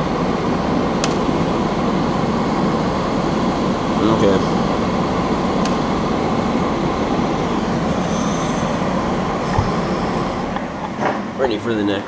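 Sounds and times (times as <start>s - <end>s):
bench fan rushing: 0.0s - 12.0s.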